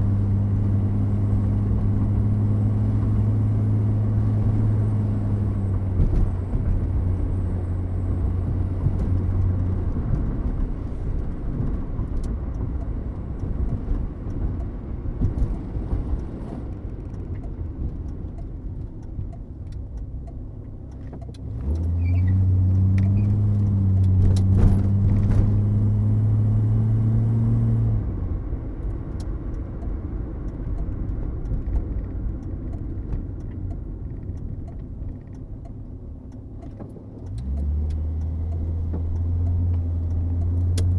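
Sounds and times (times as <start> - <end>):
car engine low rumble: 0.0 - 40.9.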